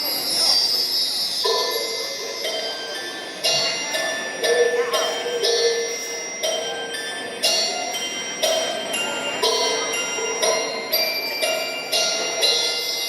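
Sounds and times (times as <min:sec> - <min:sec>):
dance music with bells: 0:00.0 - 0:13.0.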